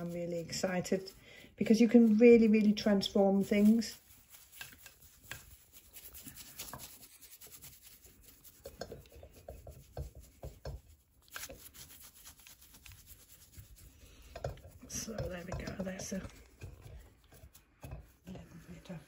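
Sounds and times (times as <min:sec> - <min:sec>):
brush rubbing on figurine: 0:00.0 - 0:19.0.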